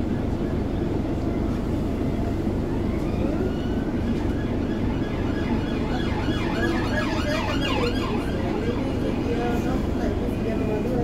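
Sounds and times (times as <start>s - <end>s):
bus engine idling: 0.0s - 11.0s
emergency vehicle siren: 0.0s - 11.0s.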